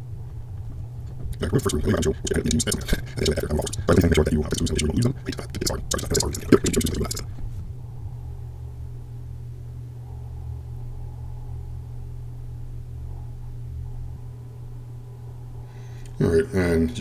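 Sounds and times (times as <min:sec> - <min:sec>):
low room hum and rumble: 0:00.0 - 0:17.0.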